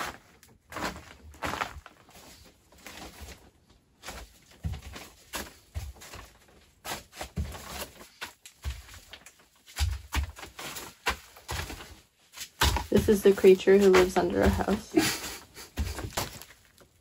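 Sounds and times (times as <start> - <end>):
scuffing and rustling of crawling: 0.0 - 17.0.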